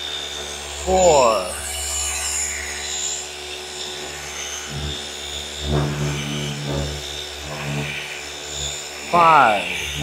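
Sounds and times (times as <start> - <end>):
orbital polisher running: 0.0 - 10.0.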